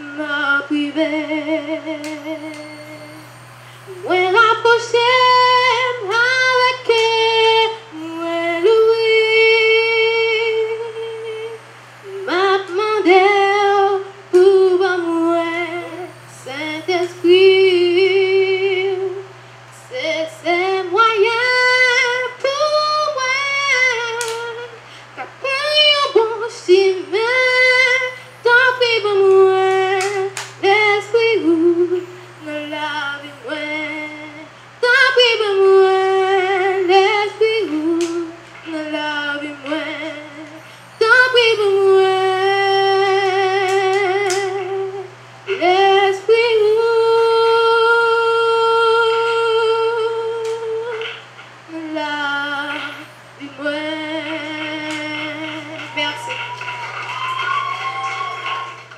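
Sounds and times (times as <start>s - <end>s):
girl singing into a microphone: 0.0s - 51.0s, 51.6s - 56.3s.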